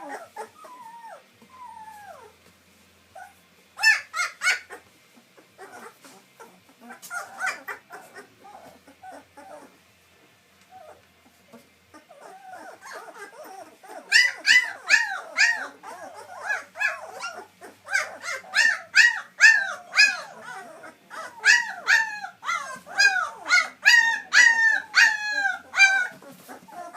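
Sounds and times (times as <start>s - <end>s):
puppies whimpering and squealing: 0.0s - 2.5s, 3.1s - 9.9s, 10.6s - 26.9s.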